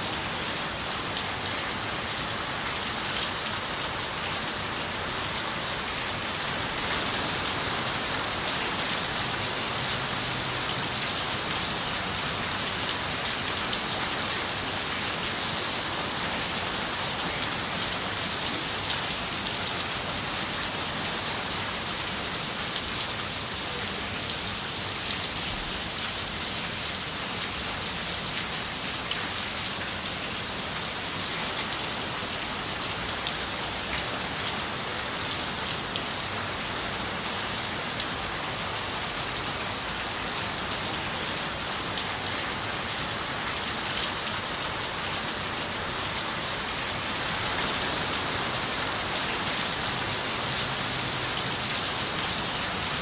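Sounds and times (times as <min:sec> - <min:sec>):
rain on a window: 0:05.4 - 0:53.0.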